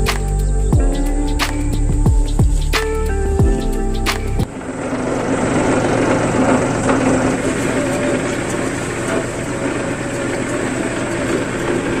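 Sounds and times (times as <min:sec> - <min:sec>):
machine motor humming and rattling: 0:00.0 - 0:12.0.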